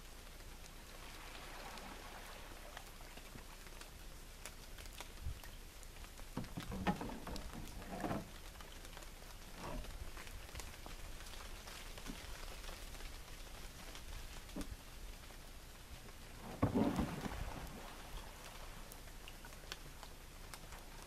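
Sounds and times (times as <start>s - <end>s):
raindrop ticks: 0.0s - 0.9s, 2.7s - 16.6s, 17.5s - 21.0s
light rain hissing: 0.0s - 21.0s.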